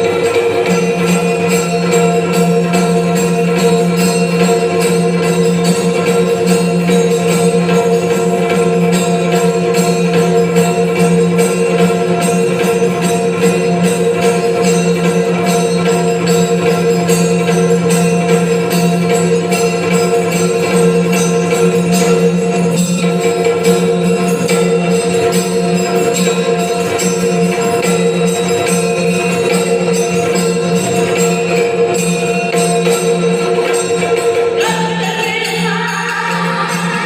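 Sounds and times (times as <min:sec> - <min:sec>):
jingling bells: 0:00.0 - 0:37.0
rhythmic percussion: 0:00.0 - 0:37.0.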